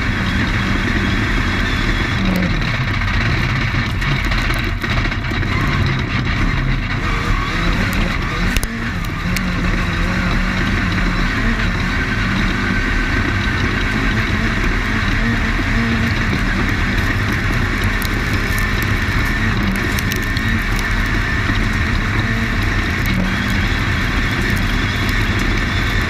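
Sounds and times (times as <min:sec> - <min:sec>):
race car engine running: 0:00.0 - 0:26.0.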